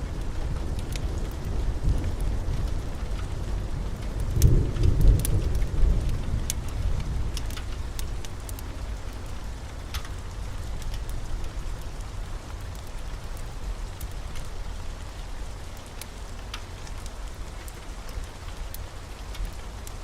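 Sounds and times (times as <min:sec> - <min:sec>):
low fire rumble: 0:00.0 - 0:20.0
wood fire crackling: 0:00.0 - 0:20.0.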